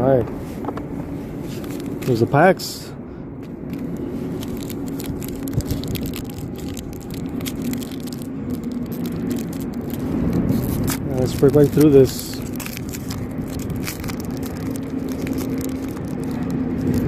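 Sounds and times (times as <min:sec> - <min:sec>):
steady low hum: 0:00.0 - 0:17.0
card packs crinkling and rattling: 0:01.5 - 0:02.7, 0:03.4 - 0:17.0.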